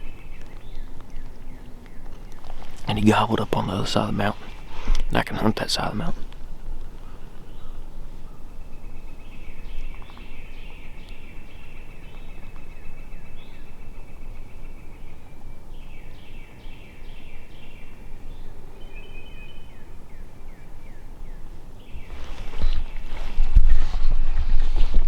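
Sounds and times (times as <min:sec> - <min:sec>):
songbird singing: 0:00.0 - 0:23.7
wind rumbling on microphone: 0:00.0 - 0:25.0.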